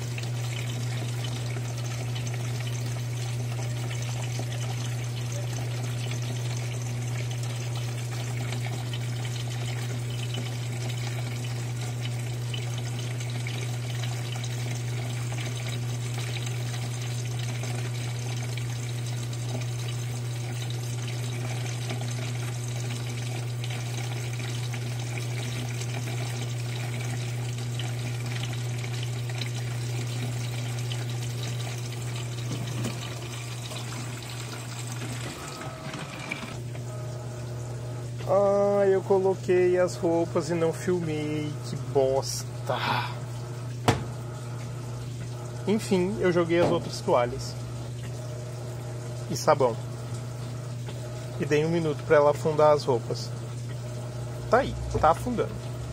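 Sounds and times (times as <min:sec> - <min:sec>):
low machine hum: 0:00.0 - 0:55.9
water rushing into washing machine: 0:00.0 - 0:55.9.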